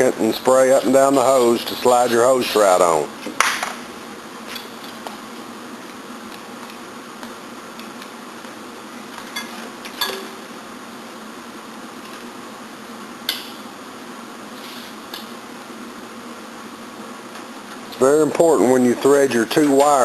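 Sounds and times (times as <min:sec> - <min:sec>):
steady background hiss and hum: 0:00.0 - 0:20.0.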